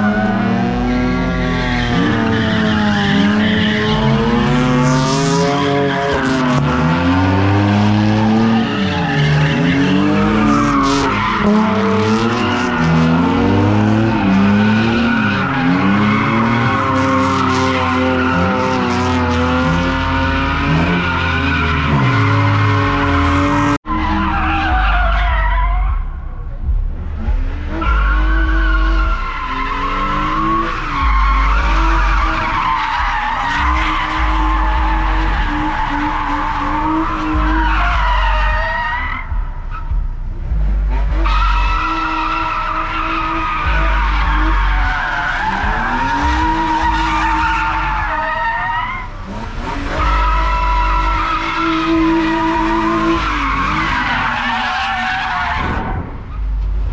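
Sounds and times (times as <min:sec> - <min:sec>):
car engine revving hard: 0:00.0 - 0:56.9.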